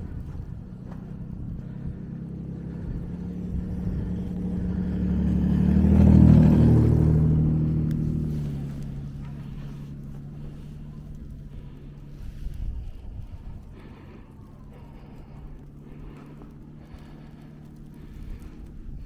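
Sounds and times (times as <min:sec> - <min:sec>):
vehicle driving past: 0:00.0 - 0:19.0.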